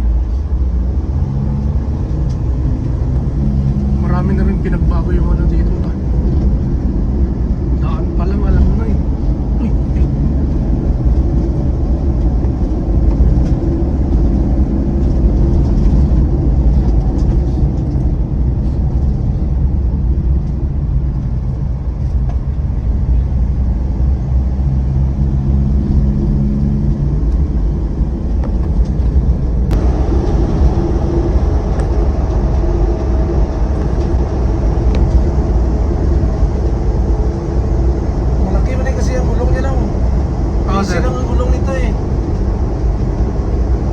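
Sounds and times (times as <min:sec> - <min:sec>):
wind on microphone: 0:00.0 - 0:43.9.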